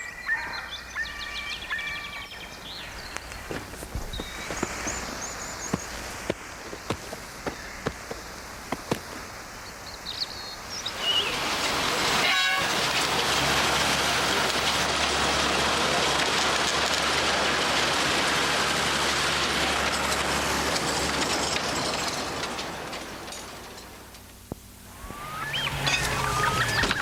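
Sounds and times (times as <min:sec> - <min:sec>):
small train rumbling past: 0:00.0 - 0:27.0.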